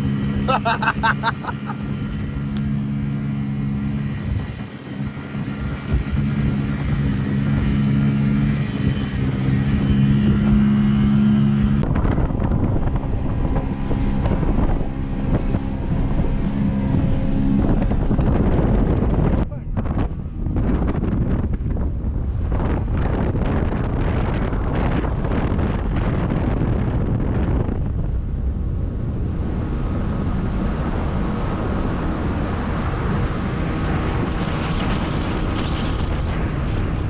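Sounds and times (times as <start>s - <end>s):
outboard motor running: 0.0s - 37.0s
water noise: 0.0s - 37.0s
wind buffeting microphone: 0.0s - 37.0s.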